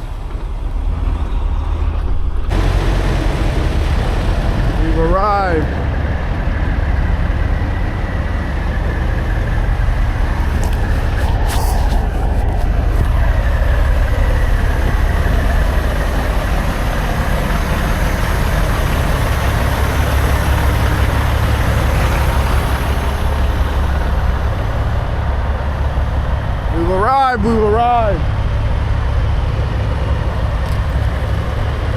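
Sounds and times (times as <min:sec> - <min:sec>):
road noise: 0:00.0 - 0:31.9
truck diesel engine rumble: 0:00.0 - 0:31.9.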